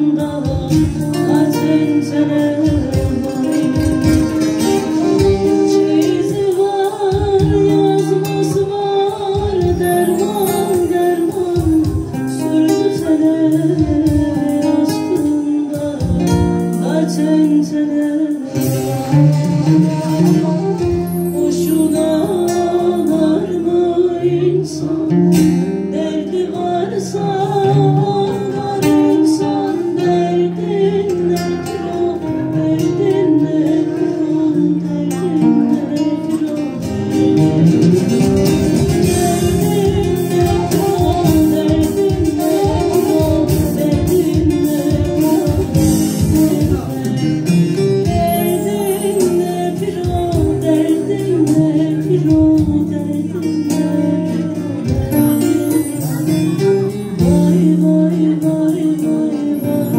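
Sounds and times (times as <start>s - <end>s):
acoustic guitar: 0.0s - 59.9s
long-necked lute: 0.0s - 59.9s
woman singing into a microphone: 0.0s - 59.9s.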